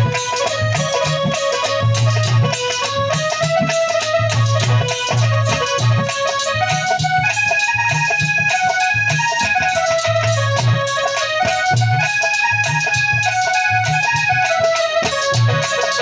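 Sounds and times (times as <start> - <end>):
hand drum steady rhythm: 0.0 - 16.0
keyboard melody of held notes: 0.0 - 16.0.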